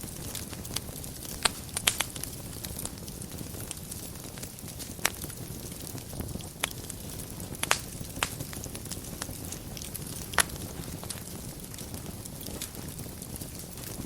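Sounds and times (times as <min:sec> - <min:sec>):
sharp fire pops: 0:00.0 - 0:14.0
wood fire crackling: 0:00.0 - 0:14.0.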